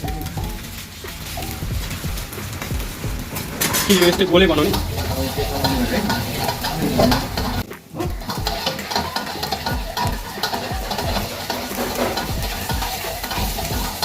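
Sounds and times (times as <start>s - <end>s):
chicken sizzling in hot oil: 0.0s - 14.0s
stirring clatter in pan: 0.0s - 14.0s.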